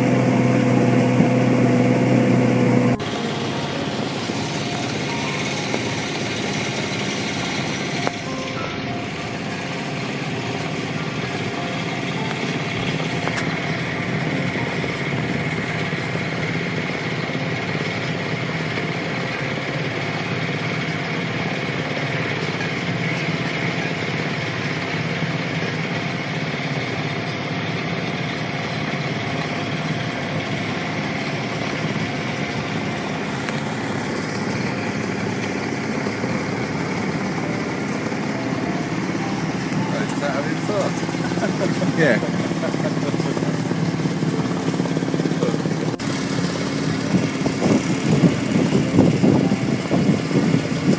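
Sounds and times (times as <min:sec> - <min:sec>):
boat engine running: 0:00.0 - 0:50.9.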